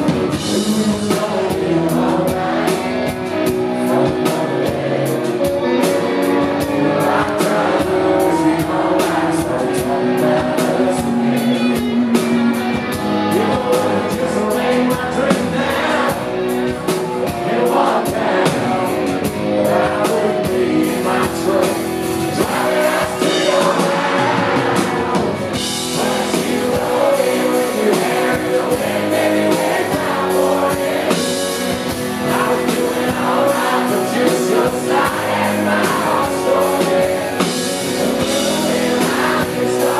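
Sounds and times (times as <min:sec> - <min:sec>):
acoustic guitar strumming: 0:00.0 - 0:39.9
man singing into a microphone: 0:00.0 - 0:39.9.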